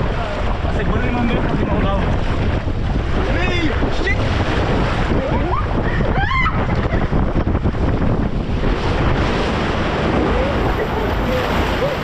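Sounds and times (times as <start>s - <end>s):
water rushing under raft: 0.0s - 12.0s
wind buffeting microphone: 0.0s - 12.0s.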